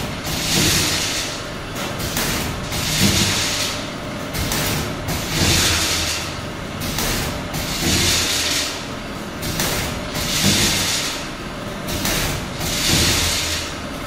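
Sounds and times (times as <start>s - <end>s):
packing machine hissing and rumbling: 0.0s - 14.0s.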